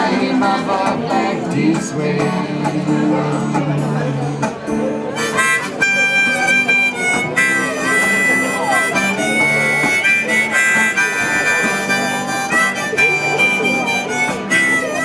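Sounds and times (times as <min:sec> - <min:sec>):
harmonica bending notes: 0:00.0 - 0:15.0
strummed guitar: 0:00.0 - 0:15.0.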